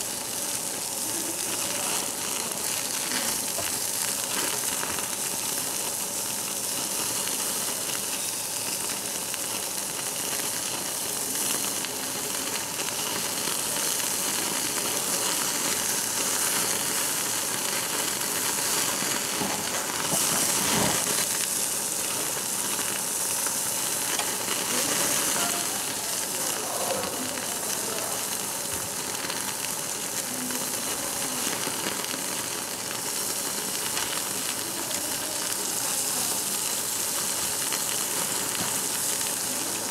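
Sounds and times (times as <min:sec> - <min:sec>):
meat sizzling on grill plate: 0:00.0 - 0:39.9.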